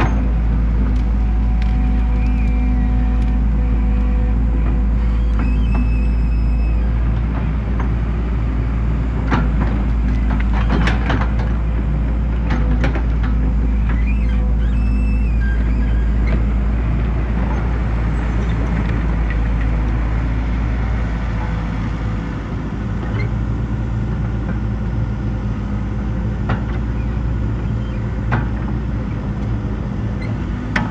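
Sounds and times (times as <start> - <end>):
diesel excavator engine running: 0.0 - 30.9.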